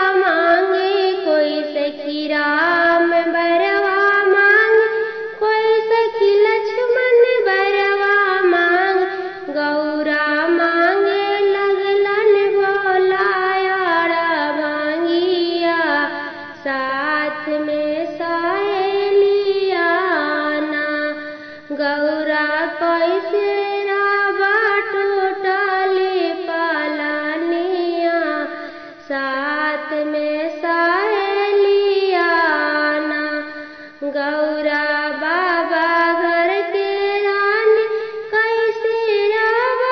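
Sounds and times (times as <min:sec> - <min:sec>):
woman singing folk song: 0:00.0 - 0:39.9.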